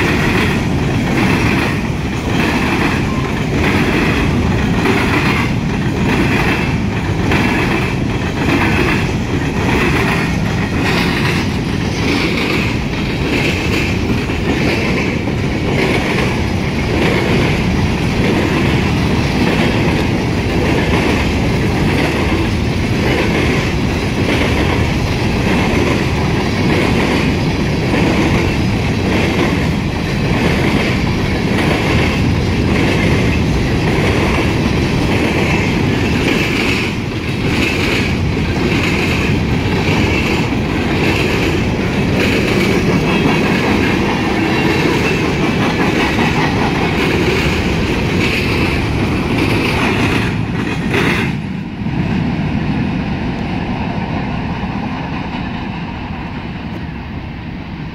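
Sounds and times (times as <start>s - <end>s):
wheels clicking over rail joints: 0.0s - 51.4s
freight train rumbling past: 0.0s - 57.9s.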